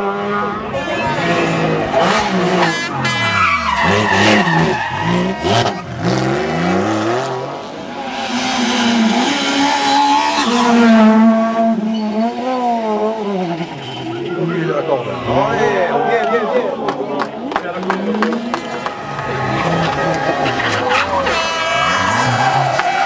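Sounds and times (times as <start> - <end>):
rally car engine revving: 0.0 - 23.0
small rally car accelerating: 0.0 - 23.0.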